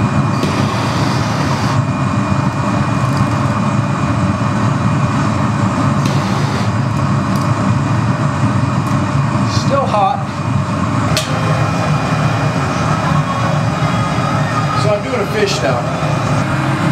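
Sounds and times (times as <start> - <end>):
gas burners roaring: 0.0 - 16.9.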